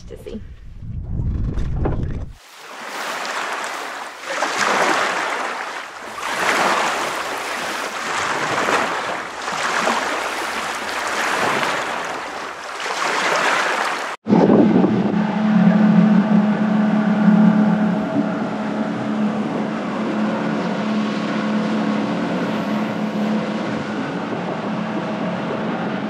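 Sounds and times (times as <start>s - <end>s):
ocean waves washing in: 2.4s - 26.0s.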